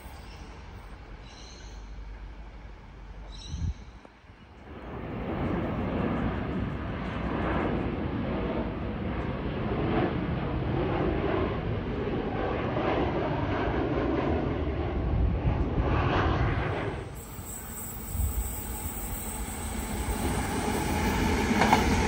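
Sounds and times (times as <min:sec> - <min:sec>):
jet airliner flying overhead: 0:00.0 - 0:22.0.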